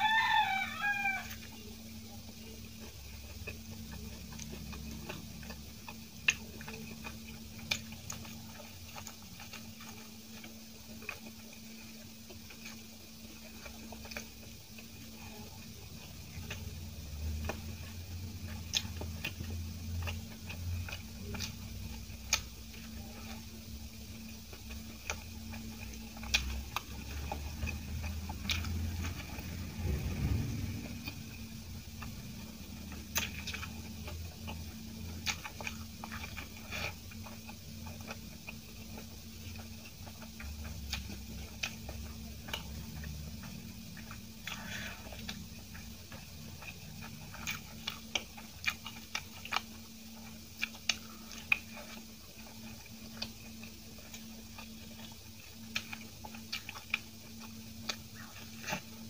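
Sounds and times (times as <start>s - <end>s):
person chewing quietly: 0.0s - 59.0s
steady low hum: 0.0s - 59.0s.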